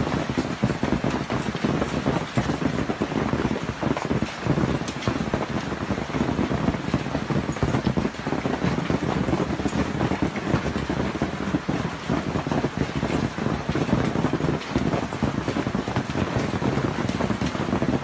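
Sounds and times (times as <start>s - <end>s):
wind gusting against microphone: 0.0s - 18.0s.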